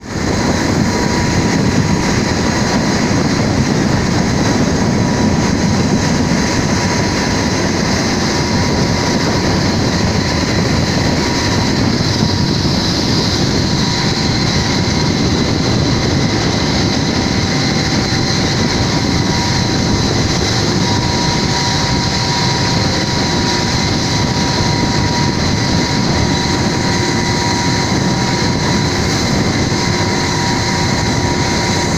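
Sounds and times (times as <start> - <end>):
rough sea roaring: 0.0 - 31.9
strong wind: 0.0 - 31.9.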